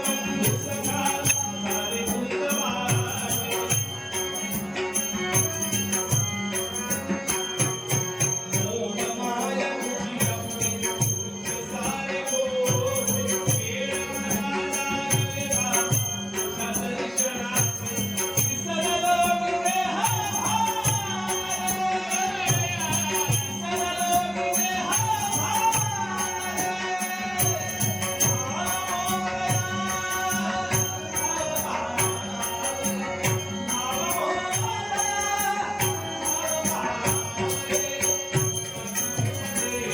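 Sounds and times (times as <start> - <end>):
man singing a hymn: 0.0 - 3.9, 8.6 - 39.9.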